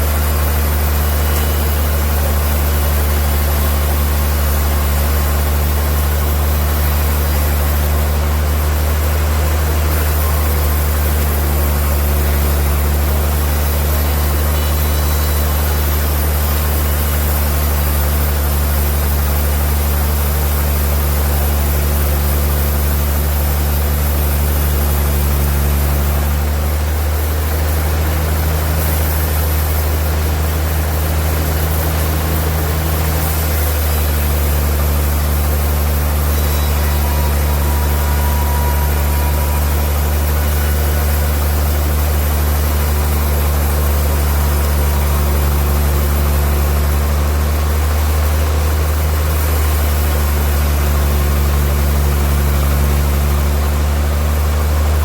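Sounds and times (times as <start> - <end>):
sawmill engine humming: 0.0 - 55.0.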